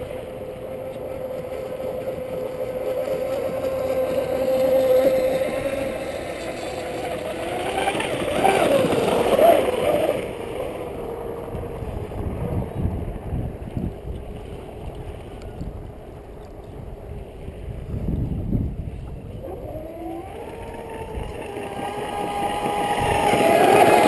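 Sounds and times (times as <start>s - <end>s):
electric boat motor whining: 0.0s - 24.0s.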